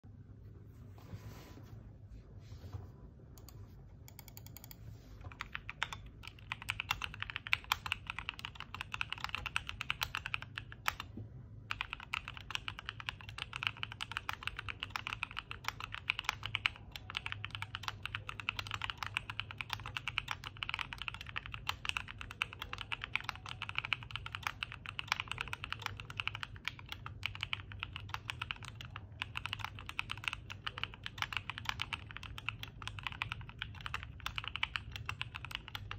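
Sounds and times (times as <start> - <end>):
mechanical keyboard typing: 3.4 - 35.9.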